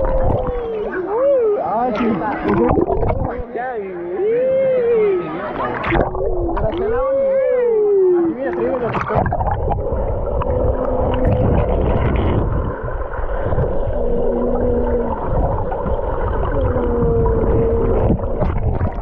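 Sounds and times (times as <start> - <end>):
muffled churning pool water: 0.0 - 19.0.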